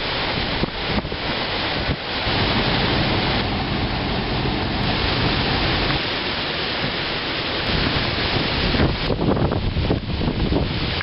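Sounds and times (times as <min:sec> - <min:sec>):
driving rain: 0:00.0 - 0:11.0
hurricane wind: 0:00.0 - 0:11.0.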